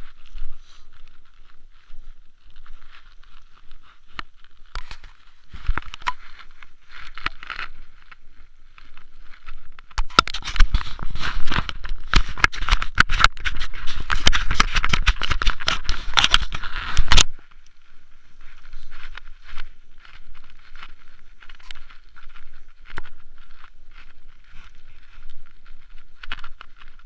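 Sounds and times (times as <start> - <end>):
bike rattling over rough ground: 0.0 - 27.0.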